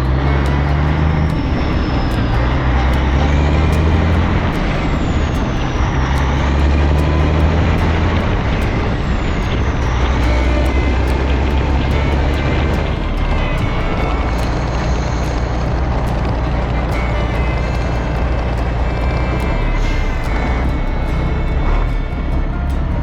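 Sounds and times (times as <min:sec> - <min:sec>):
low engine drone: 0:00.0 - 0:23.0
road noise: 0:00.0 - 0:23.0.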